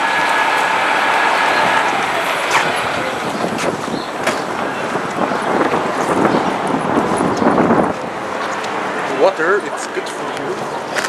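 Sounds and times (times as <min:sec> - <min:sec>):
city street traffic: 0:00.0 - 0:11.0
vehicle whine: 0:00.0 - 0:11.0.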